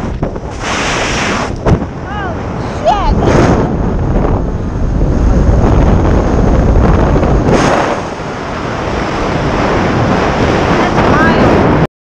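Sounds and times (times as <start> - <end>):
freefall wind buffeting microphone: 0.0 - 11.9.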